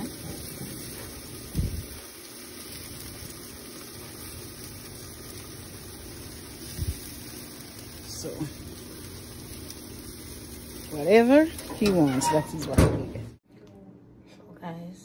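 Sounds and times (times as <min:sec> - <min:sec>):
chicken sizzling on a grill: 0:00.0 - 0:13.4.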